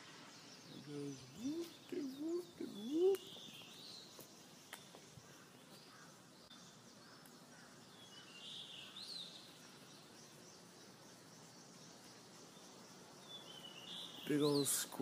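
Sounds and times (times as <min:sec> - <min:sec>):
distant bird chirps: 0:00.0 - 0:15.0
faint background hiss: 0:00.0 - 0:15.0.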